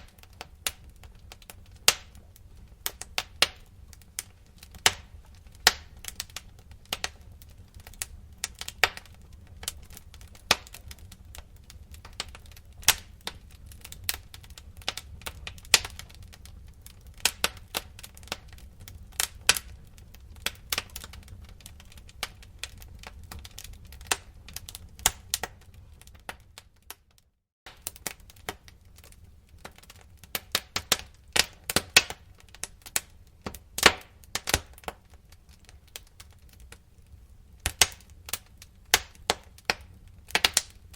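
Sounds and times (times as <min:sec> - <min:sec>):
fire pops and snaps: 0:00.0 - 0:40.9
low rumble of flames: 0:00.0 - 0:40.9
wood fire crackling: 0:00.0 - 0:40.9.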